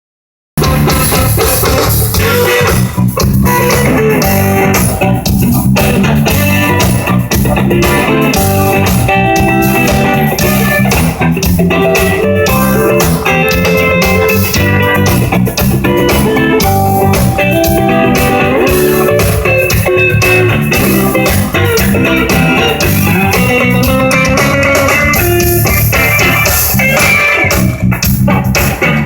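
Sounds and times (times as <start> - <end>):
bass line: 0.6 - 29.0
blues electric guitar: 0.6 - 29.0.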